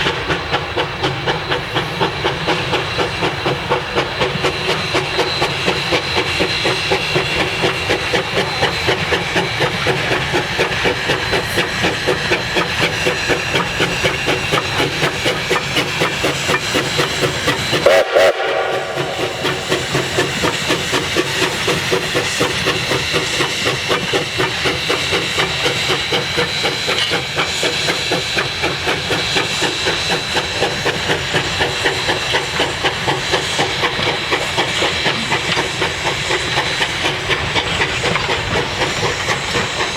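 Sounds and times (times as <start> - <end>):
steam locomotive exhaust chuffing: 0.0 - 39.9
train wheels clattering on rails: 0.0 - 39.9.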